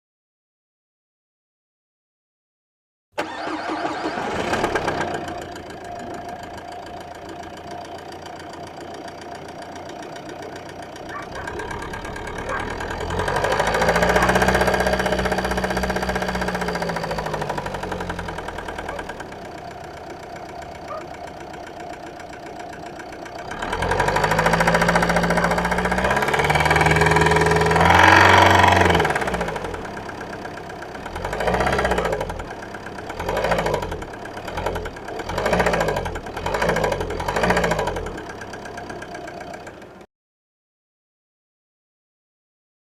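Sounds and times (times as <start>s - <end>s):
diesel engine knocking and revving: 4.1s - 40.1s.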